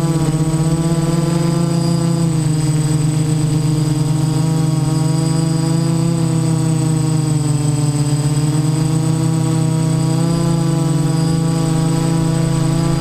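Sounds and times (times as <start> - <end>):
multirotor drone motors buzzing: 0.0 - 13.0.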